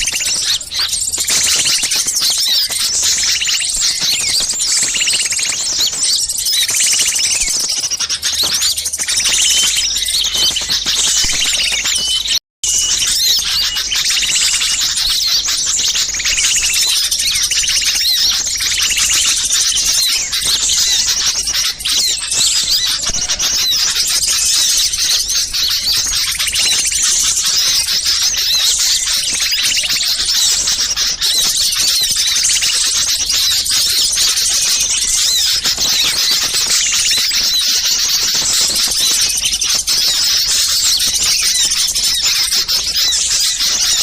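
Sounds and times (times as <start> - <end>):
small songbirds chirping: 0.0 - 44.0.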